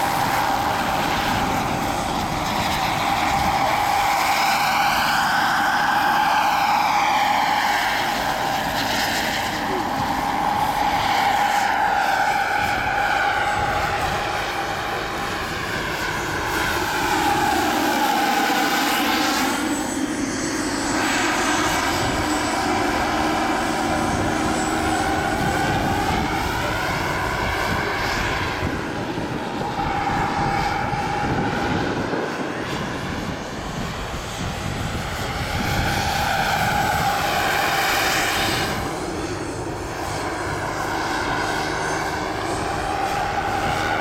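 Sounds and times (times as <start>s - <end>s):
model helicopter whine and rotor: 0.0s - 44.0s.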